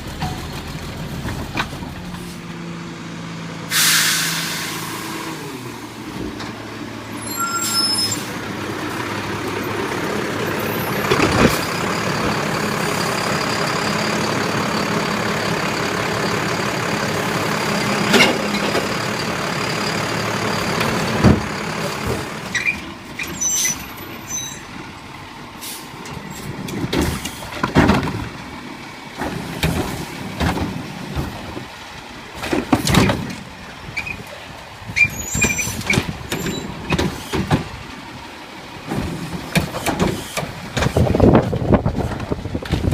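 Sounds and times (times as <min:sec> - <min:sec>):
garbage truck engine running: 0:00.0 - 0:42.9.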